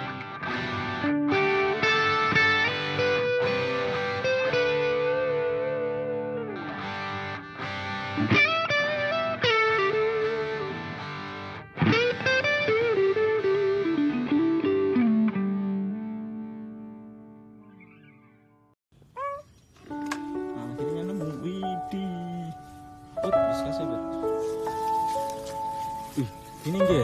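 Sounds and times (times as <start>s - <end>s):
guitar-led instrumental music: 0.0s - 27.0s.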